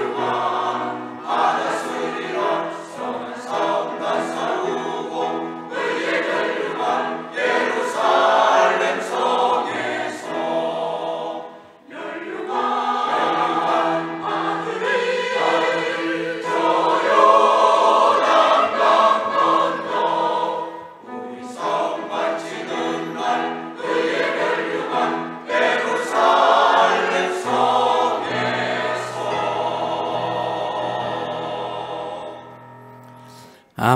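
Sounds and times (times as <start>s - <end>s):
choir singing a hymn: 0.0s - 32.8s.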